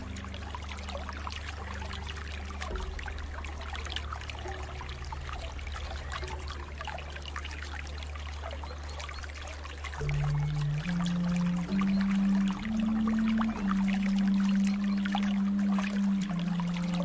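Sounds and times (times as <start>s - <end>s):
low steady hum: 0.0s - 17.0s
water trickling and splashing: 0.0s - 17.0s.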